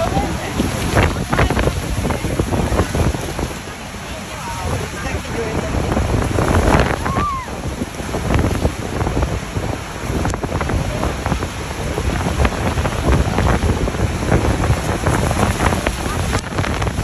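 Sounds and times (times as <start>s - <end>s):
waterfall rushing water: 0.0s - 17.0s
wind buffeting microphone: 0.0s - 17.0s.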